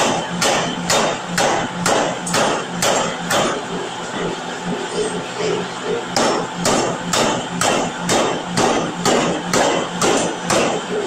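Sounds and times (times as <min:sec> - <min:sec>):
power hammer striking hot steel: 0:00.0 - 0:03.8, 0:05.5 - 0:11.0
low machine hum: 0:00.0 - 0:11.0.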